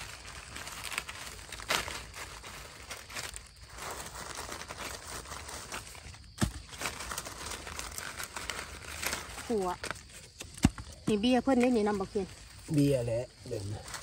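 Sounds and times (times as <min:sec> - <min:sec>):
dry leaves rustling and crackling: 0:00.0 - 0:14.0.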